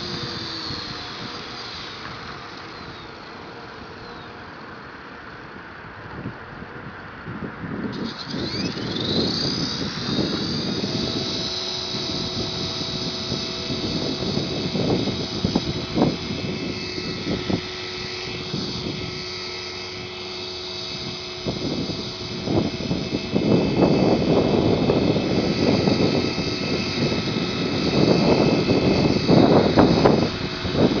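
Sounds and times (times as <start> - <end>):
model helicopter motor whine: 0.0 - 31.0
wind buffeting microphone: 0.0 - 31.0.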